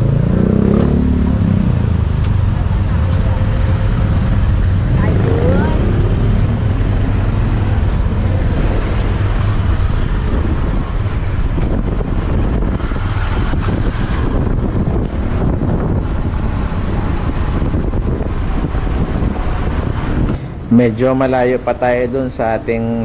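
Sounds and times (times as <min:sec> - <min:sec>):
motorbike engine: 0:00.0 - 0:20.5
city traffic: 0:00.0 - 0:23.0.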